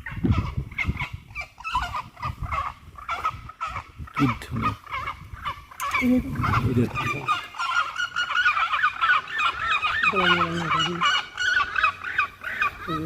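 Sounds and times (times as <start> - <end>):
low drawn-out bird call: 0.0 - 13.0
many birds calling: 0.0 - 13.0.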